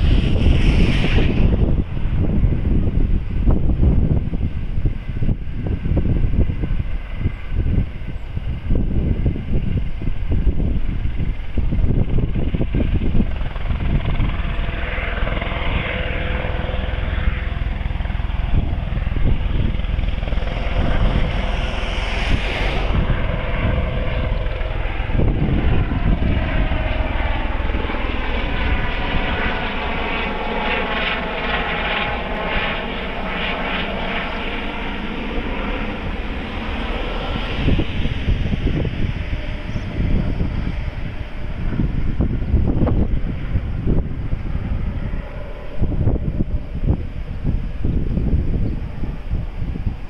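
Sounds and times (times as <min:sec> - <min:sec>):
helicopter flying overhead: 0:00.0 - 0:50.0.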